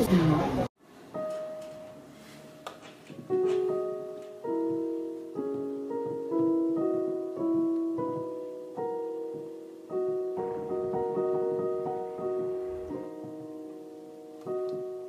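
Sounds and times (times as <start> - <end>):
soft piano music: 0.9 - 15.0.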